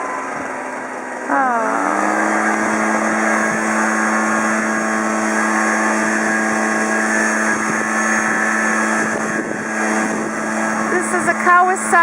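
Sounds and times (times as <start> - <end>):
air rushing from blower tube: 0.0 - 12.0
leaf blower engine drone: 0.0 - 12.0.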